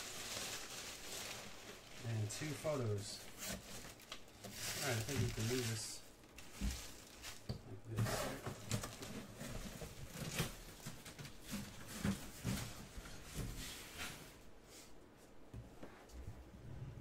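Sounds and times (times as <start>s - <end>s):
plastic and paper rustling: 0.0s - 14.3s.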